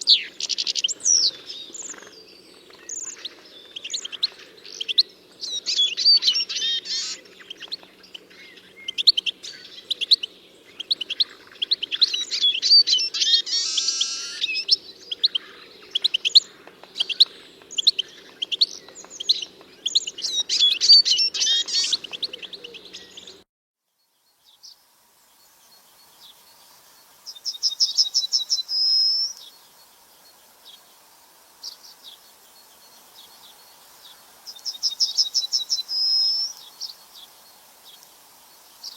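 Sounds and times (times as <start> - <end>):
songbirds chirping and trilling: 0.0 - 23.4, 24.0 - 38.9.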